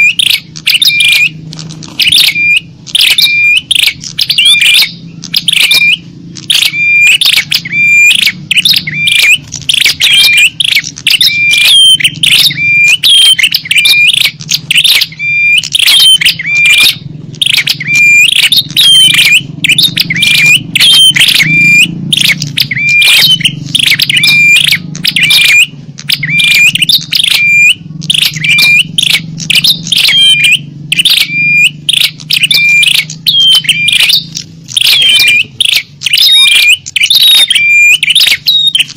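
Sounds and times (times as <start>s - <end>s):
songbird chirping calls: 0.0s - 38.9s.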